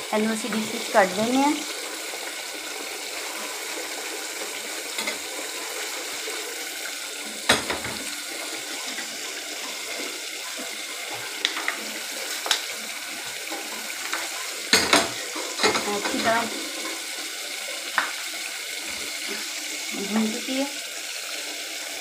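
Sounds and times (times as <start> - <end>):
chicken sizzling in gravy: 0.0 - 22.0.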